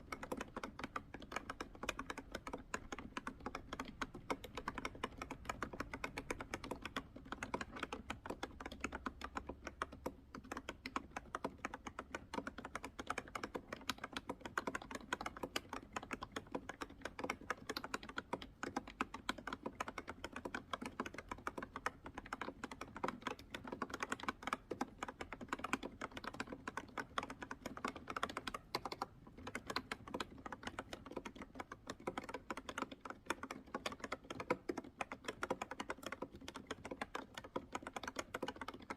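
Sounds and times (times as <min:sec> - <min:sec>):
fast keyboard typing: 0:00.0 - 0:38.9.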